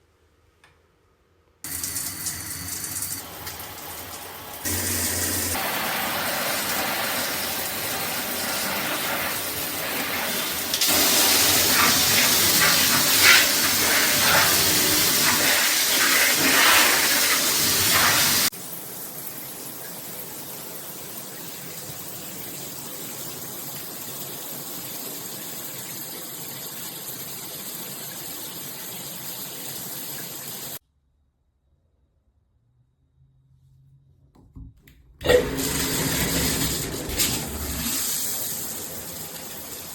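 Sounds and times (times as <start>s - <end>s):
shower head spraying water: 1.7s - 30.8s, 35.2s - 39.9s.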